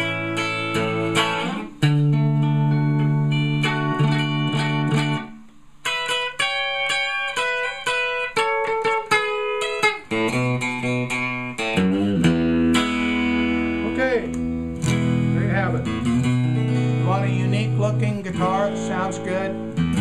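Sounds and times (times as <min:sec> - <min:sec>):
electric guitar played with a pick: 0:00.0 - 0:20.0.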